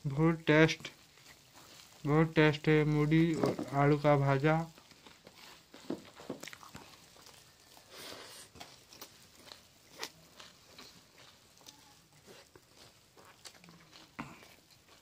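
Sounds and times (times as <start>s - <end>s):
crunching and rustling puffed rice: 0.0s - 15.0s.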